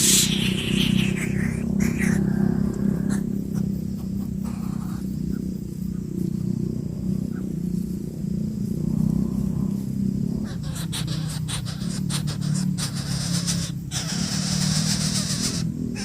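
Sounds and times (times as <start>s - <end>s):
low motor rumble: 0.0s - 16.0s.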